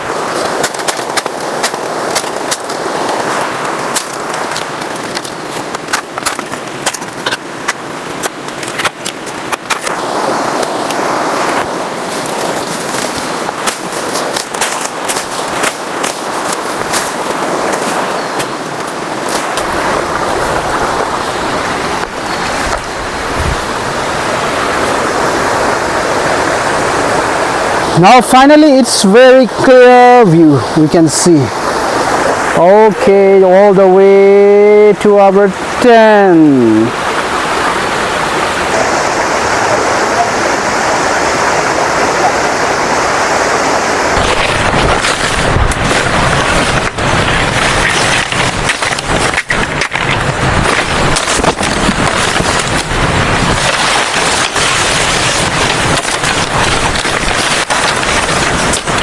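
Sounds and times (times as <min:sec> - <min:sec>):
wind buffeting microphone: 0:00.0 - 0:28.2, 0:29.2 - 0:59.0
waterfall roaring: 0:00.0 - 0:59.0.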